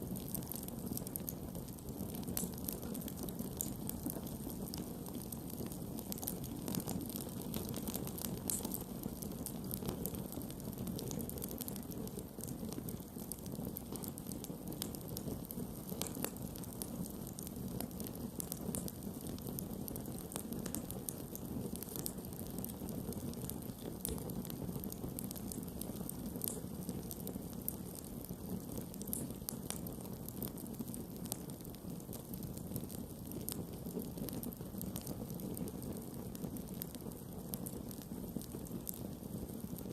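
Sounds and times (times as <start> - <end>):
fire crackling and popping: 0.0 - 39.9
campfire flames rushing: 0.1 - 39.9.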